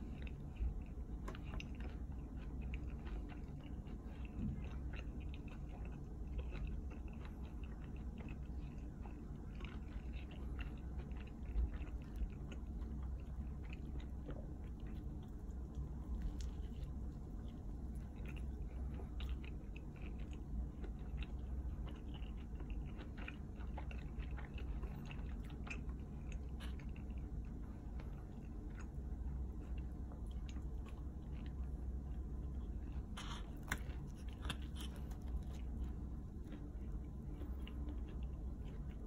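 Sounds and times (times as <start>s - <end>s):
low steady hum: 0.0s - 39.0s
person chewing pizza: 0.0s - 39.0s.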